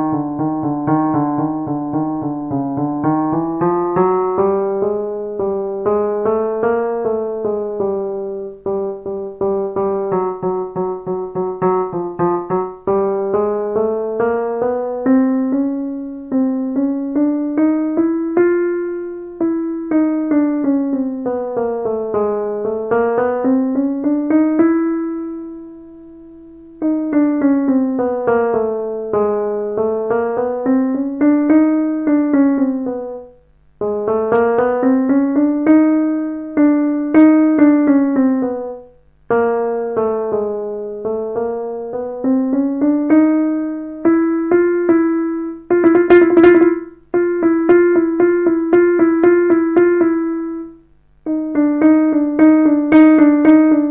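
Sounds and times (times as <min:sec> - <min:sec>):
piano broken-chord runs: 0:00.0 - 0:53.9.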